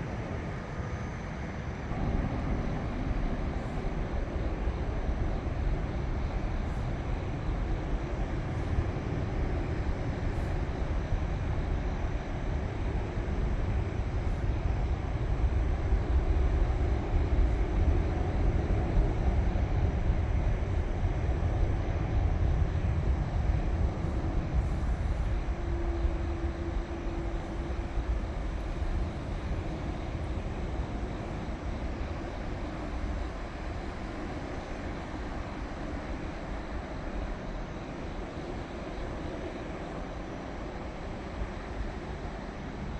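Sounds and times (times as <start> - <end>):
airplane rumbling overhead: 0.0 - 42.9.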